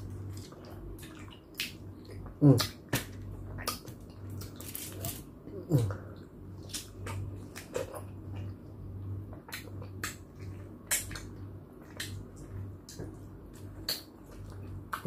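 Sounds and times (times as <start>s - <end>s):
wet eating mouth sounds: 0.0s - 8.6s, 9.3s - 15.0s
steady low hum: 0.0s - 15.0s.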